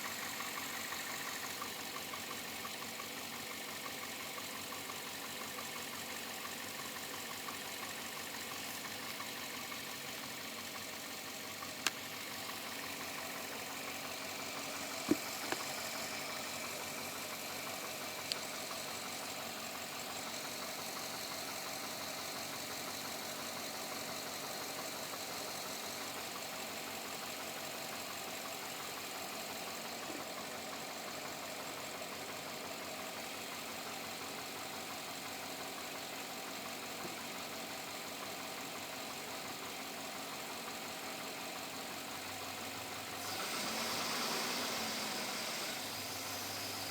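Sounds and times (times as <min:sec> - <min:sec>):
engine running with knocking: 0:00.0 - 0:46.9.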